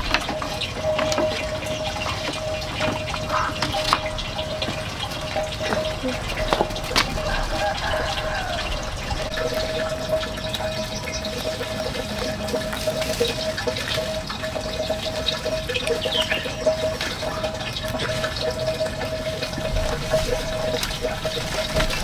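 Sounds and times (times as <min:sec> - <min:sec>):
water flowing: 0:00.0 - 0:22.0.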